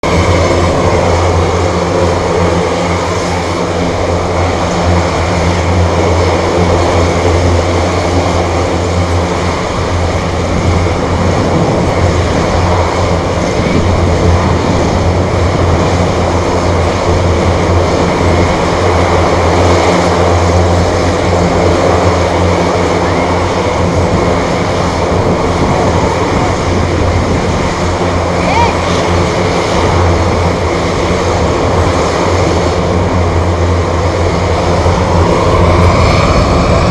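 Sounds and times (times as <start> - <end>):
aircraft engines droning: 0.0 - 36.9.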